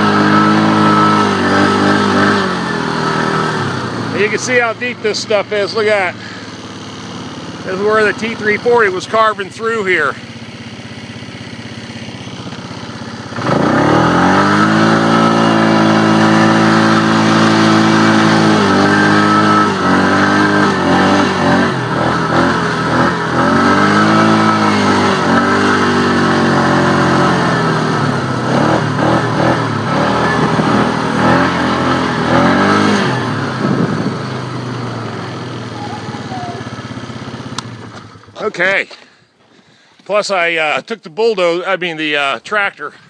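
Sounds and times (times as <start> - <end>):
engine revving: 0.0 - 38.8.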